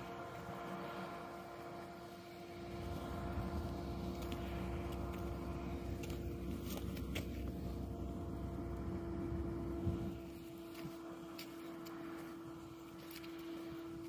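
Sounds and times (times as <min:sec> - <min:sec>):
low rumble: 0:00.0 - 0:13.8
steady machine hum: 0:00.0 - 0:14.0.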